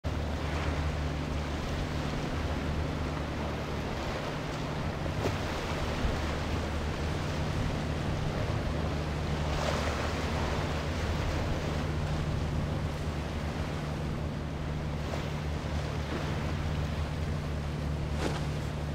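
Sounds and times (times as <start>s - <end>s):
choppy water: 0.0s - 18.9s
outboard motor running: 0.0s - 18.9s.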